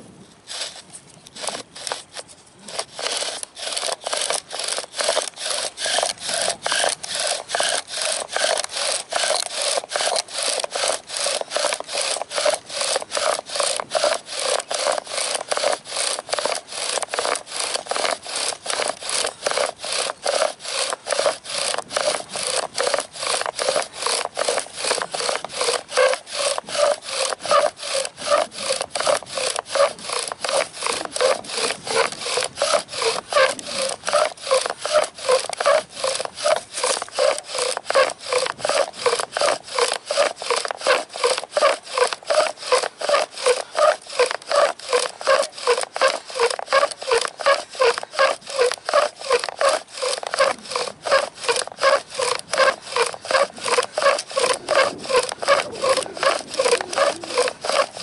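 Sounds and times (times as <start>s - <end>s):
bow drill spindle grinding: 0.4s - 58.0s.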